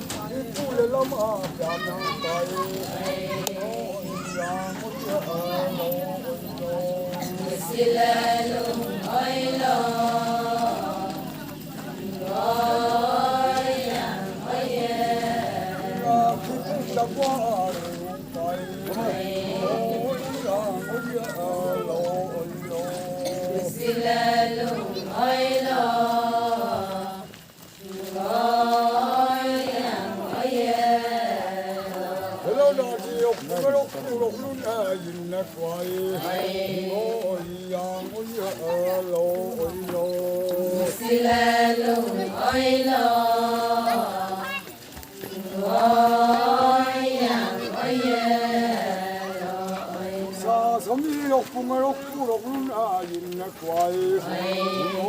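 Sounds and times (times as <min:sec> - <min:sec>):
voices singing a chant: 0:00.0 - 0:55.0.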